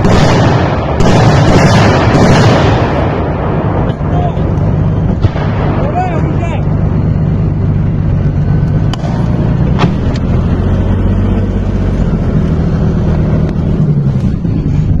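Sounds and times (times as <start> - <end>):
sharp cracks: 0.0 - 14.6
heavy vehicle engine droning: 0.0 - 15.0.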